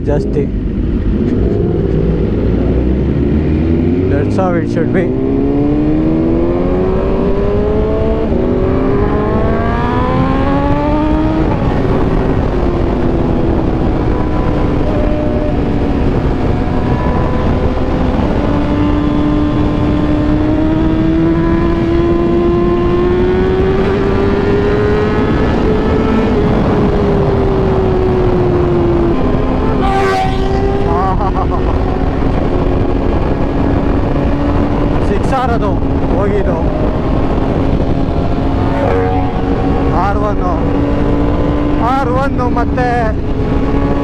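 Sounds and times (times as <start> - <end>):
motorcycle engine accelerating: 0.0 - 44.0
wind rush: 0.0 - 44.0.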